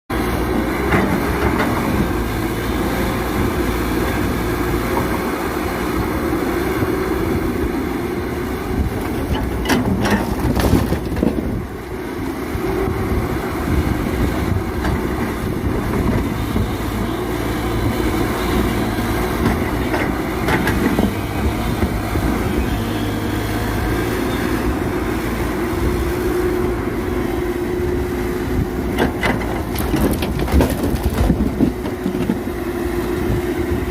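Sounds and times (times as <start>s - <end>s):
construction machine engine rumble: 0.1s - 33.9s.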